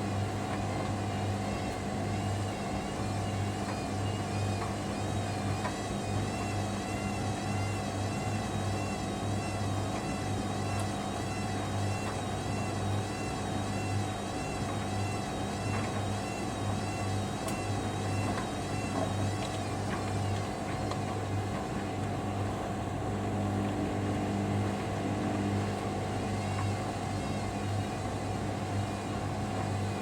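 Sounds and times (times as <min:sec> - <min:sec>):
washing machine hum: 0:00.0 - 0:30.0
wavering motor whine: 0:00.0 - 0:30.0.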